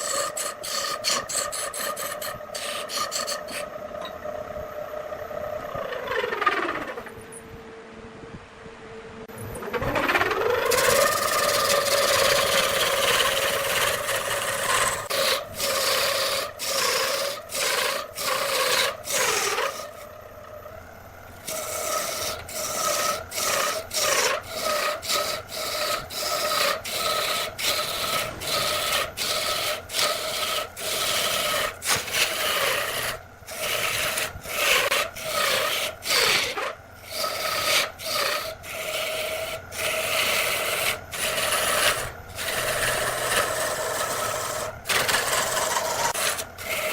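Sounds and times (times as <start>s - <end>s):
lathe tool scraping wood: 0.0s - 7.2s, 9.6s - 46.9s
lathe humming: 0.0s - 7.8s, 9.2s - 46.9s.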